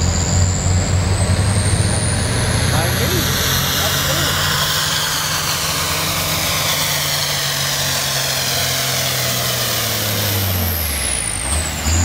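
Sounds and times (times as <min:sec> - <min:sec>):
diesel truck engine labouring: 0:00.0 - 0:12.0.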